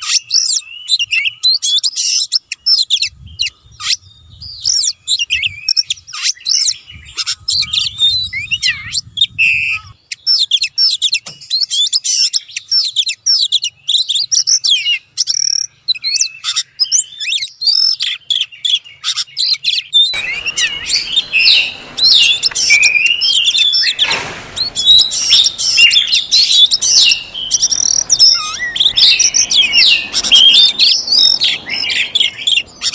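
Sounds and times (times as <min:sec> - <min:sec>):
bird singing whistles and trills: 0:00.0 - 0:32.9.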